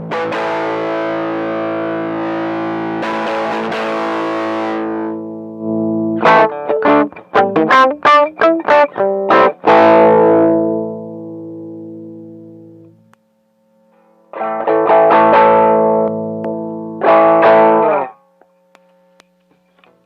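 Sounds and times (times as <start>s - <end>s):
distorted electric guitar: 0.0s - 13.1s, 13.8s - 18.2s.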